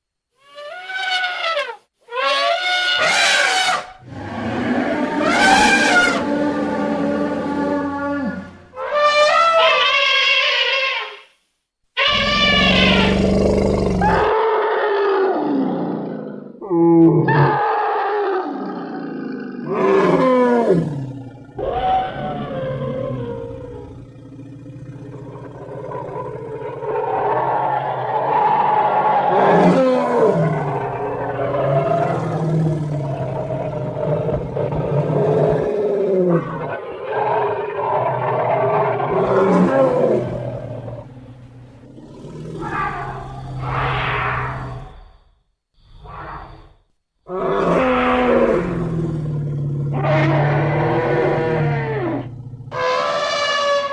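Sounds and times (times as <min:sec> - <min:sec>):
elephant trumpeting and roaring: 0:00.5 - 0:11.0, 0:12.0 - 0:16.1, 0:16.8 - 0:45.1, 0:47.3 - 0:53.9.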